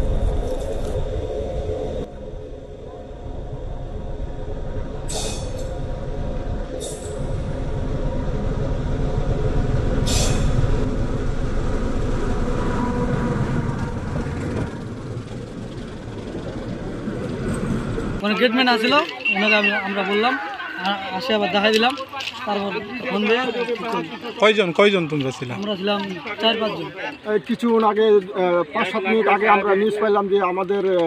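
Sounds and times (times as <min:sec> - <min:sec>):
diesel locomotive rumbling: 0:00.0 - 0:27.3.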